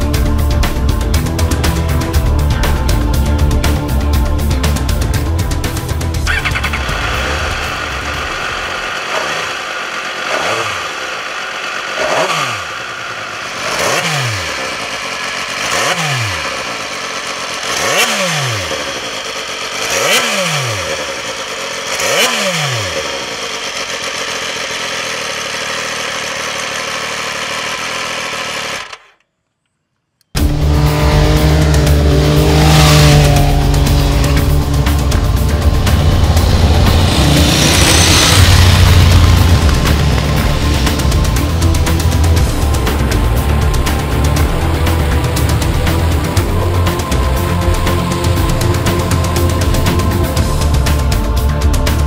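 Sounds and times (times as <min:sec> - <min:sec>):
motorcycle engine revving: 0:00.0 - 0:29.2, 0:30.3 - 0:52.0.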